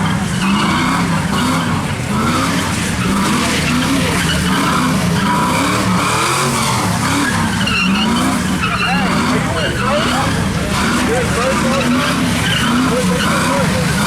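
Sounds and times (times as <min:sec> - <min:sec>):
car engine revving: 0:00.0 - 0:14.0
tyres hissing on wet road: 0:00.1 - 0:14.0.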